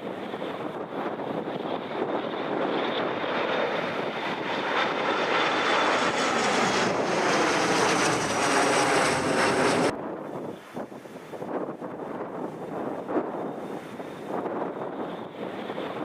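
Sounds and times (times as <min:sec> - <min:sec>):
airliner engines passing: 0:00.0 - 0:16.0.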